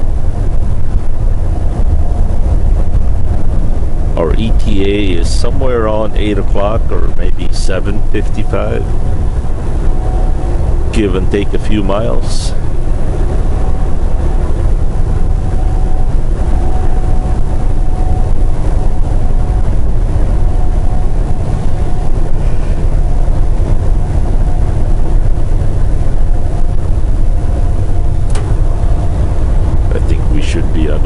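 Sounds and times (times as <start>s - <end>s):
faint steady whine: 0.0s - 31.0s
truck engine and road drone: 0.0s - 31.0s.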